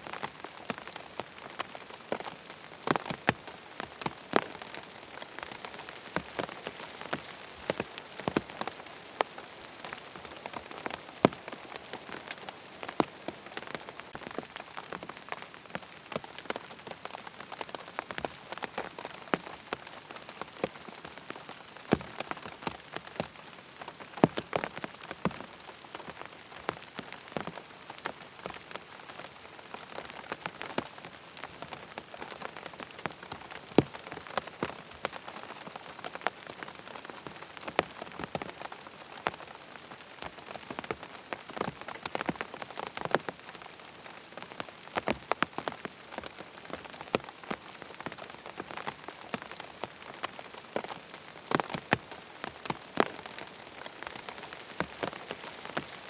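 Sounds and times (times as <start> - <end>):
raindrops ticking on hard surface: 0.0 - 56.0
steady rain: 0.0 - 56.0.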